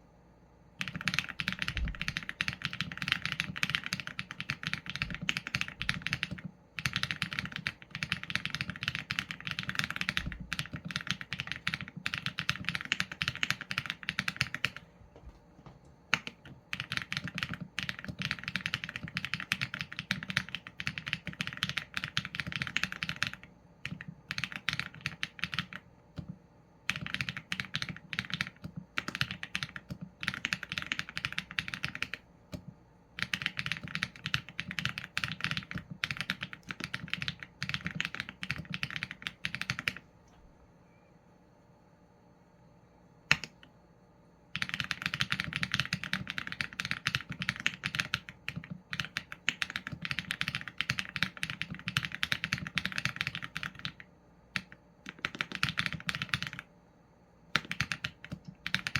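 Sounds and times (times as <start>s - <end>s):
typing on mechanical keyboard: 0.8s - 14.8s, 16.1s - 40.0s, 43.3s - 43.6s, 44.6s - 56.7s, 57.5s - 58.9s.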